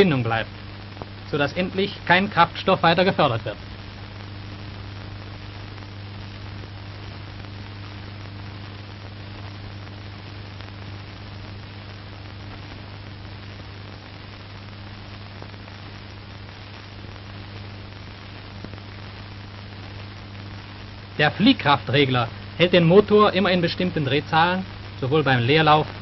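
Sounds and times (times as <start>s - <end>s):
low mains hum: 0.0s - 26.0s
steady hiss: 0.0s - 26.0s.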